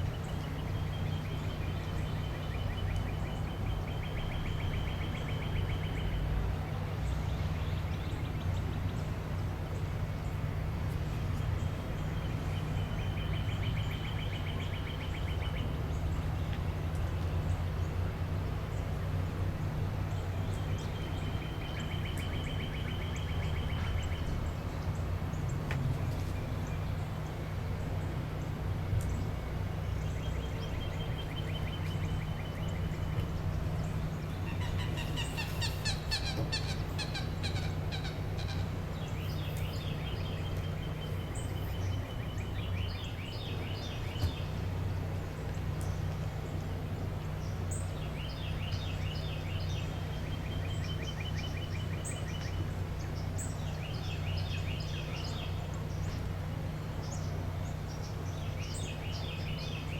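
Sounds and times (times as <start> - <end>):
low background rumble: 0.0 - 59.9
birds chattering trills: 11.2 - 59.9.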